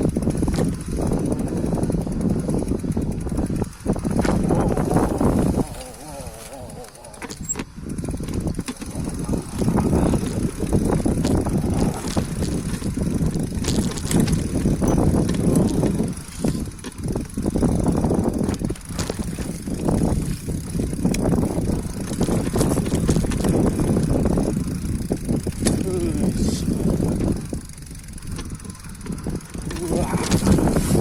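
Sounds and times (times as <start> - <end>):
bicycle tyres rumbling: 0.0 - 31.0
bike rattles and clicks: 0.0 - 31.0
wind on microphone: 0.0 - 31.0.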